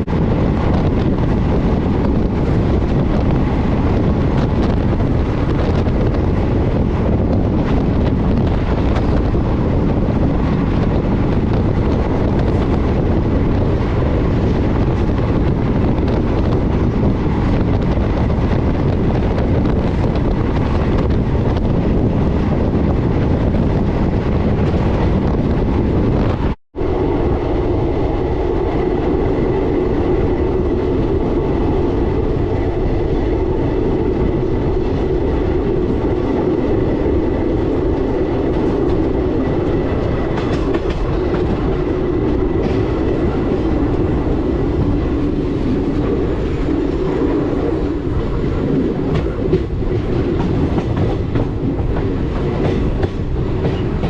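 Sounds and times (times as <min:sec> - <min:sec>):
clickety-clack over rail joints: 0:00.0 - 0:26.6, 0:28.2 - 0:54.0
train wheels rumbling on rail: 0:00.0 - 0:54.0.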